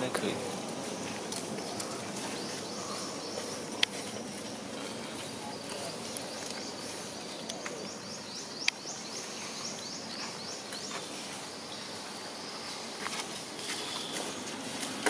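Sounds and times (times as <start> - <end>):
outdoor ambience: 0.0 - 15.0.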